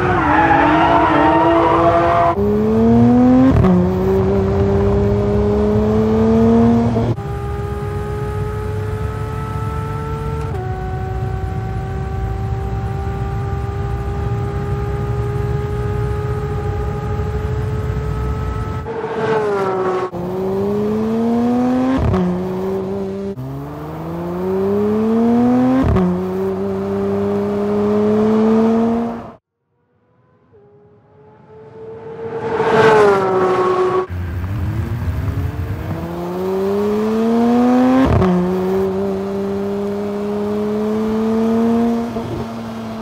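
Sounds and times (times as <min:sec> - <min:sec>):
car engine revving and shifting: 0:00.0 - 0:29.4, 0:30.0 - 0:43.0.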